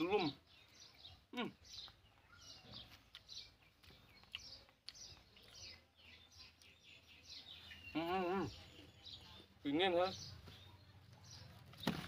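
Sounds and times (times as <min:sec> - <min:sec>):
faint birdsong chirps and trills: 0:00.0 - 0:12.0.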